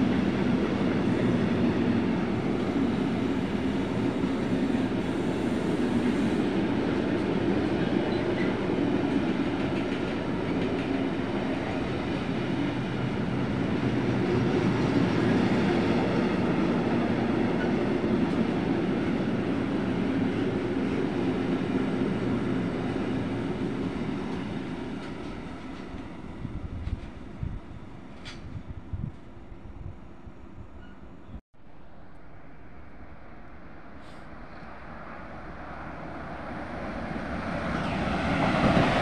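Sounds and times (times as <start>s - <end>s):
train wheels rolling on rails: 0.0s - 29.4s, 35.7s - 39.0s.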